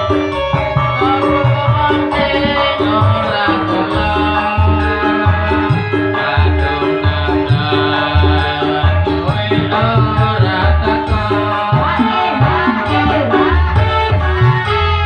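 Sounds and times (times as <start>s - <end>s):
band playing instrumental music: 0.0s - 15.0s
drum and bass rhythm: 0.0s - 15.0s
pitch-bending melody line: 0.0s - 15.0s.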